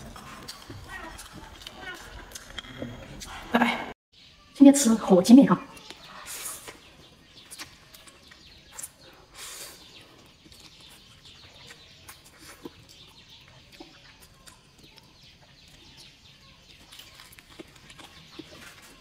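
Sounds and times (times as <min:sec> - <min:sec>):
chewing and smacking: 0:00.0 - 0:03.4, 0:06.7 - 0:19.0.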